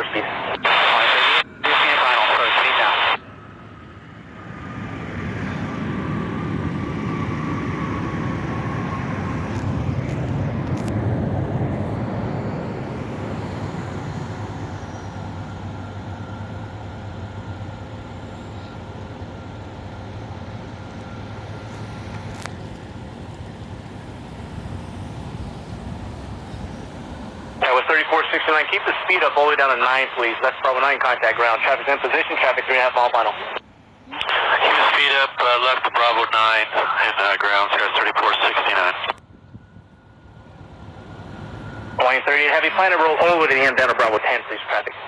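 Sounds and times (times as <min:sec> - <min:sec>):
jet engines passing by: 0:00.0 - 0:45.0.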